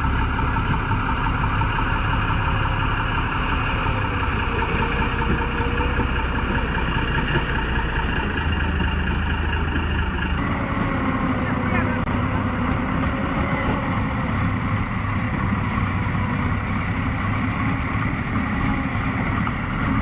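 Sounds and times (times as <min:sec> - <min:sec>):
vehicle engine running under load: 0:00.0 - 0:20.0.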